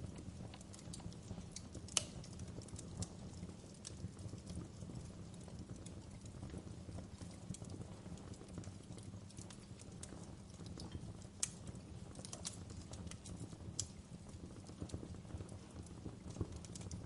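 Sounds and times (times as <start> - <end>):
low rumble of flames: 0.0 - 17.0
sharp fire pops: 0.0 - 17.0
wood fire crackling: 0.0 - 17.0.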